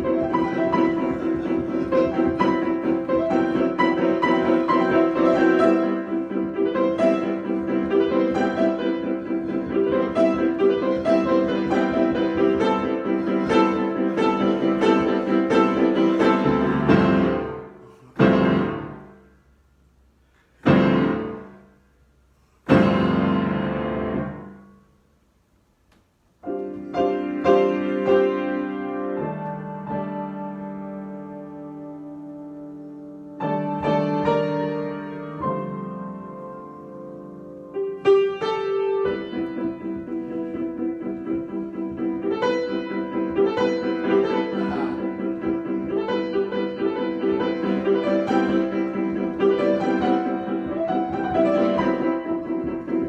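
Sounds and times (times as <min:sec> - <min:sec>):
solo piano playing: 0:00.0 - 0:19.4, 0:20.6 - 0:21.8, 0:22.7 - 0:25.0, 0:26.4 - 0:53.0.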